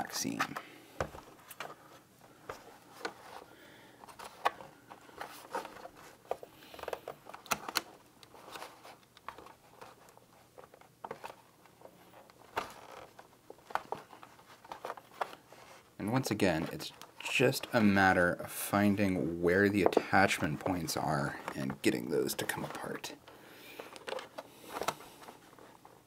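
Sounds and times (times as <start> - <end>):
plastic scraping: 0.3 - 26.0.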